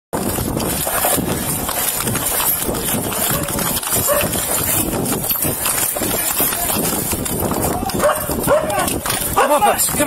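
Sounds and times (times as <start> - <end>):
running footsteps: 0.1 - 10.0.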